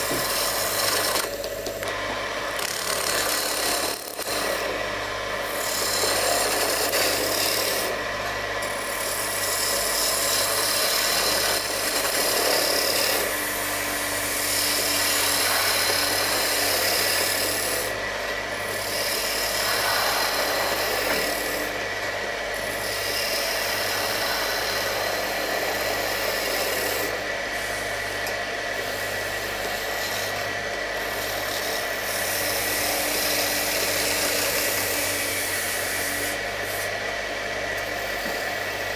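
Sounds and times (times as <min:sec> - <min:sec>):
tool rasping on spinning wood: 0:00.0 - 0:37.2
wood lathe whine: 0:00.0 - 0:38.9.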